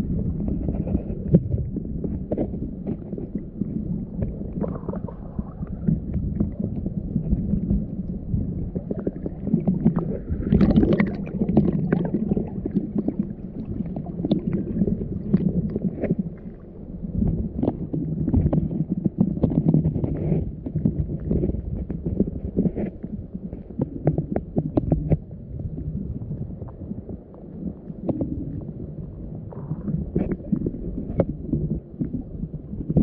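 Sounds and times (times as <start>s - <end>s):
muffled underwater water wash: 0.0s - 33.0s.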